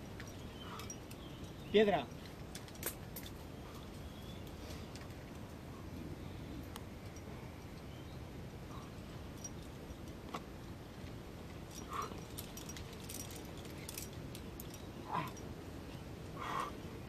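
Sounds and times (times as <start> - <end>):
metal climbing gear clinking: 0.0 - 5.5, 8.6 - 16.8
low background noise: 0.0 - 17.0.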